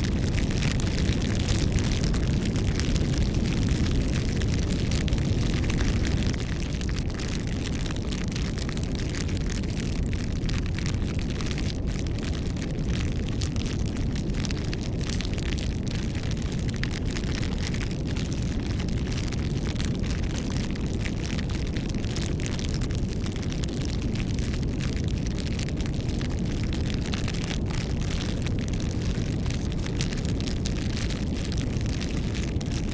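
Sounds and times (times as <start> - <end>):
fire crackling and popping: 0.0 - 32.9
low rumble of flames: 0.0 - 32.9.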